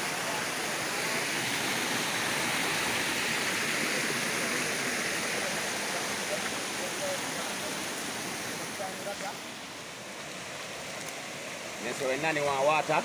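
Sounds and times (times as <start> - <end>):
stream water over rocks: 0.0 - 13.0.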